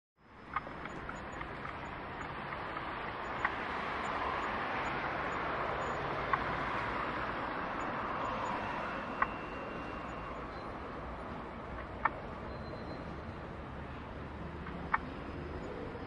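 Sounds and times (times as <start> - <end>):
steady outdoor noise: 0.2 - 16.0.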